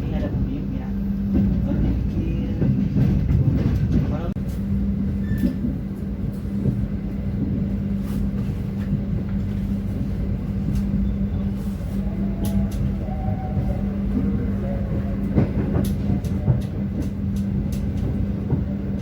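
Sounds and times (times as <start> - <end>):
constant hum: 0.0 - 19.0
train rumbling at speed: 0.0 - 19.0.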